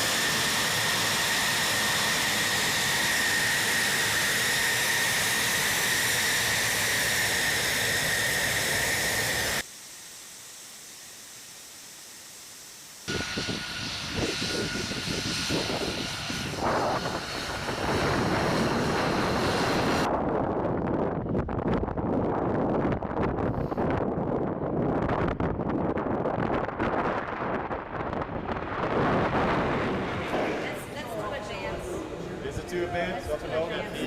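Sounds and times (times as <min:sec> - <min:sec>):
jet engine whine: 0:00.0 - 0:34.0.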